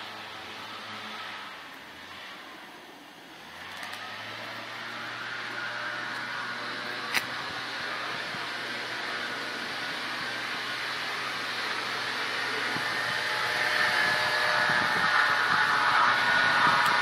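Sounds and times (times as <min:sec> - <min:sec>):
steady mechanical whir: 0:00.0 - 0:17.0.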